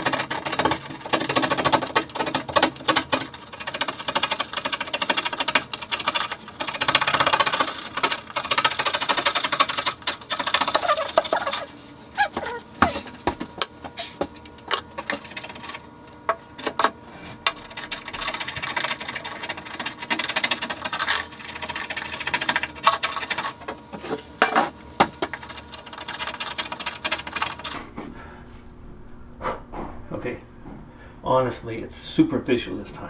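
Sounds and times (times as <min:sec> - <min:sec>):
hard objects clicking and clattering: 0:00.0 - 0:27.8.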